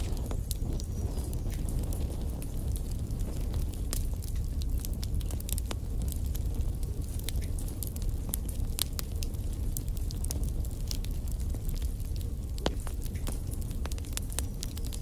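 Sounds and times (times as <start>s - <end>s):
fire roaring: 0.0s - 15.0s
logs crackling and popping: 0.0s - 15.0s.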